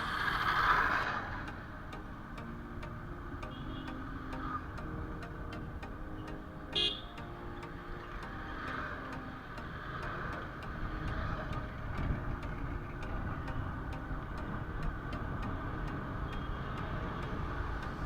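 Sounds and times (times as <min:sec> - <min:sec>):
even ticking: 0:00.0 - 0:18.0.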